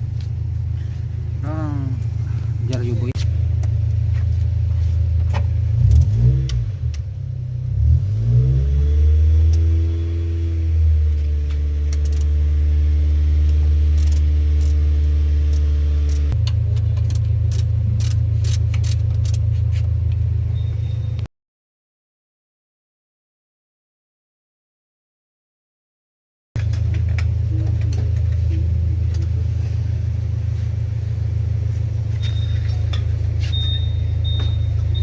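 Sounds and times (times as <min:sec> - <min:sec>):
car engine running: 0:00.0 - 0:21.2, 0:26.6 - 0:35.0.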